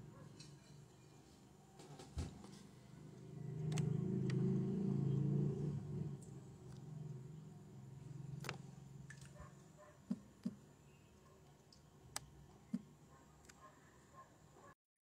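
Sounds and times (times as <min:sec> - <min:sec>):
low rumble of street traffic: 0:00.0 - 0:14.7.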